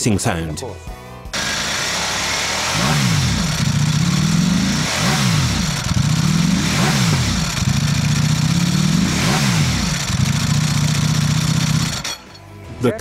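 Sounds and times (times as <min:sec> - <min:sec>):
motorcycle engine revving: 0:01.4 - 0:12.3.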